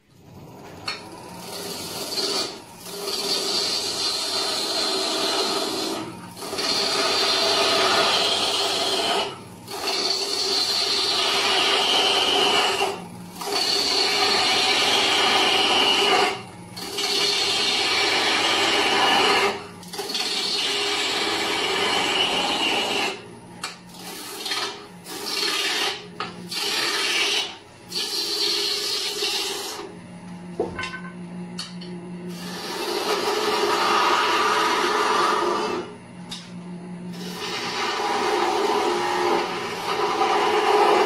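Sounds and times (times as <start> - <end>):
lathe humming: 0.9 - 29.9, 32.3 - 36.0, 37.1 - 41.0
lathe tool scraping wood: 1.3 - 23.2, 23.9 - 29.9, 32.3 - 35.9, 37.2 - 41.0.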